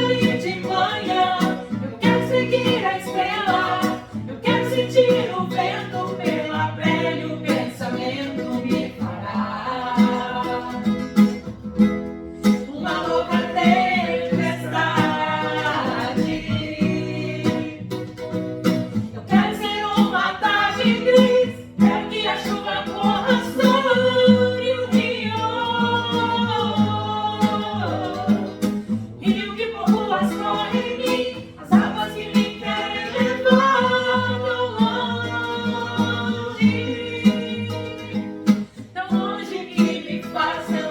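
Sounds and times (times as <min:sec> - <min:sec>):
people singing: 0:00.0 - 0:11.5, 0:12.4 - 0:40.9
strummed acoustic guitar: 0:00.0 - 0:40.9.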